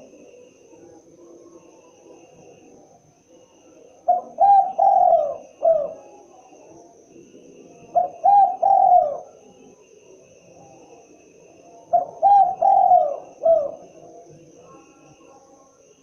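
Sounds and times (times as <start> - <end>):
dove cooing: 0.0 - 15.4.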